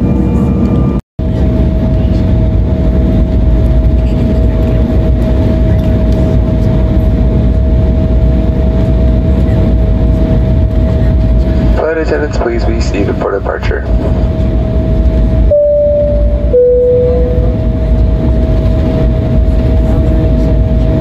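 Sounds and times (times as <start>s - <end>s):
jet engines rumbling: 0.0s - 21.0s
steady engine whine: 0.0s - 21.0s.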